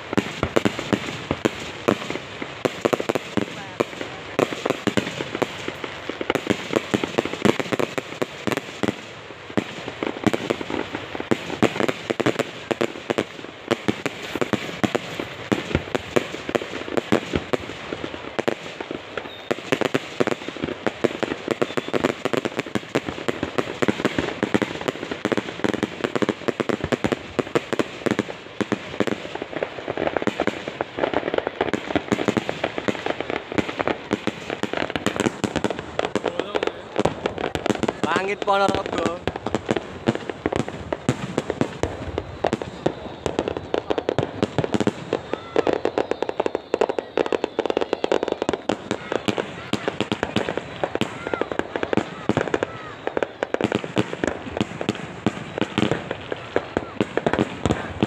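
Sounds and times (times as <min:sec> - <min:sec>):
firecrackers crackling: 0:00.0 - 0:58.0
loud firecracker pops: 0:00.0 - 0:58.0.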